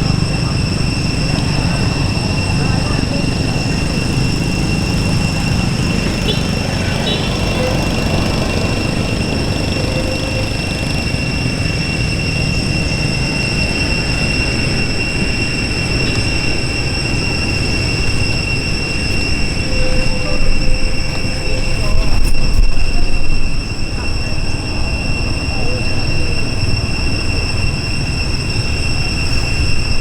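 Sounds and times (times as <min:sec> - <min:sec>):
high-pitched insect drone: 0:00.0 - 0:30.0
low outdoor rumble: 0:00.0 - 0:30.0.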